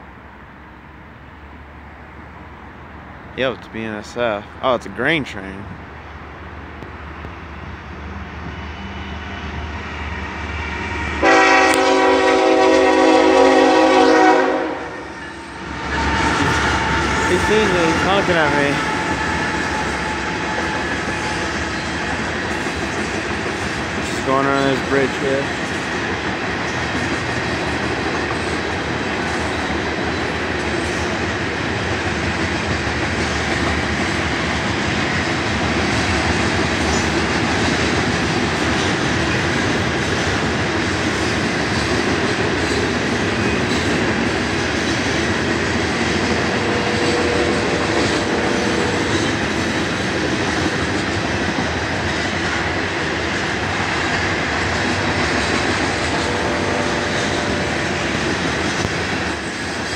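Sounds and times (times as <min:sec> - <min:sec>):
train wheels rolling on rails: 0:05.9 - 0:59.9.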